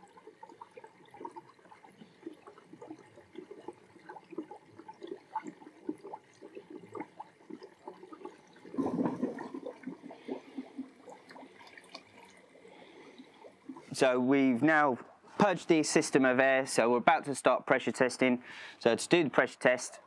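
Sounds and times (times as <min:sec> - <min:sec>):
water bubbling and gurgling: 0:00.0 - 0:16.3.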